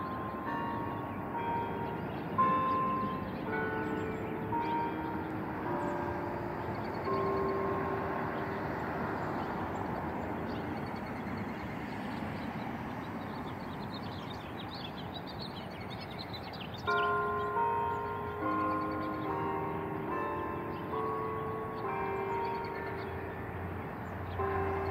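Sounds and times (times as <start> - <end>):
church bell ringing: 0.0 - 12.4, 16.8 - 24.9
birds chirping: 0.0 - 24.9
road noise: 0.0 - 24.9.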